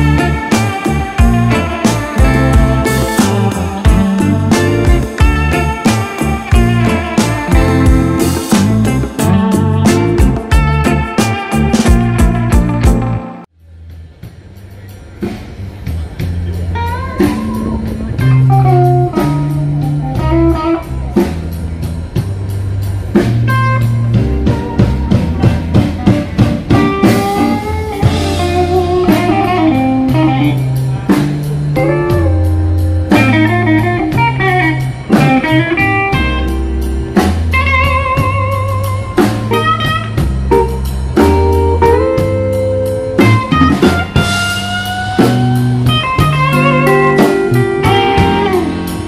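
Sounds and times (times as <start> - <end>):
blues band playing: 0.0 - 49.0
electric guitar lead lines: 0.0 - 49.0.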